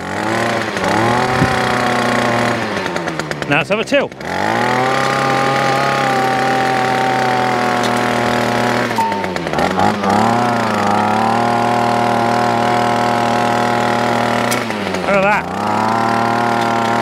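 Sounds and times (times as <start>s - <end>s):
strimmer engine running under load: 0.0s - 17.0s
tiller tines in soil: 0.0s - 17.0s.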